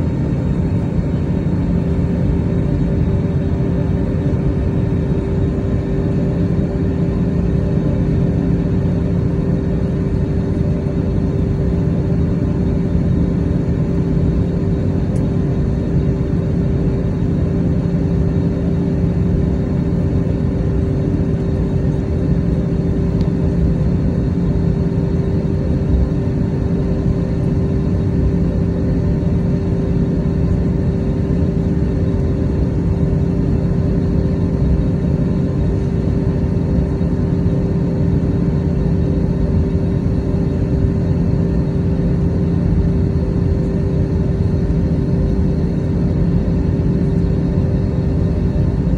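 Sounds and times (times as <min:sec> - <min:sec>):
aircraft engines at taxi power: 0:00.0 - 0:48.9
constant low hum: 0:00.0 - 0:48.9.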